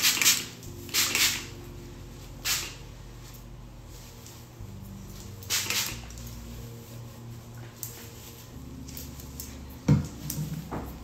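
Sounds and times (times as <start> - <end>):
faint steady hum: 0.4 - 11.0
hair swishing: 2.2 - 11.0.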